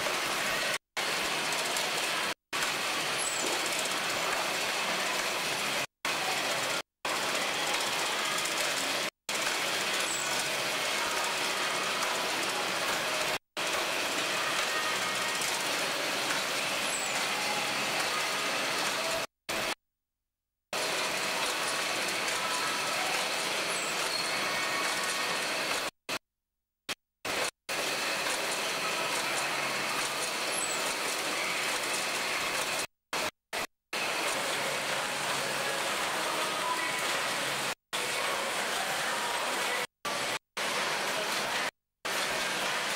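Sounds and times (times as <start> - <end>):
packaging machinery running: 0.0 - 19.8, 20.8 - 25.9, 27.3 - 42.9.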